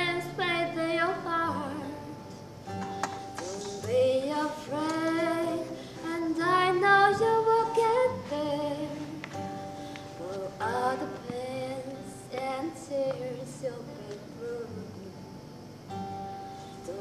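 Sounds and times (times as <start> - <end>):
woman singing slow melody: 0.0 - 2.4, 3.2 - 15.6, 16.5 - 17.0
acoustic guitar strummed and picked: 0.0 - 17.0.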